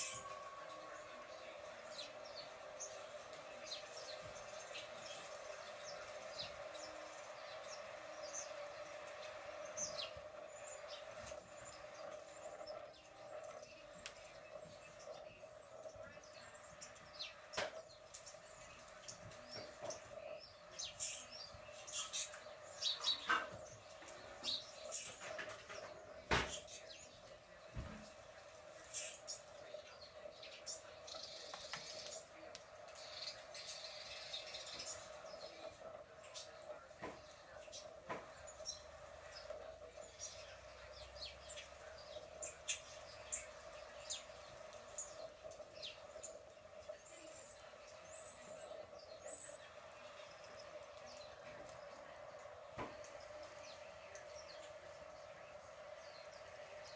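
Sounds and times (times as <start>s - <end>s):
faint steady hum: 0.0s - 56.9s
small birds chirping: 0.0s - 56.9s.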